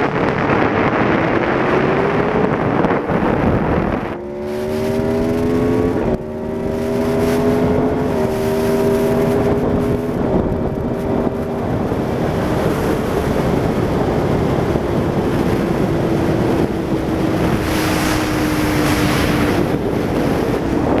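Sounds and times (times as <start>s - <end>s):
motorcycle engine accelerating: 0.0s - 21.0s
wind noise on microphone: 0.0s - 21.0s.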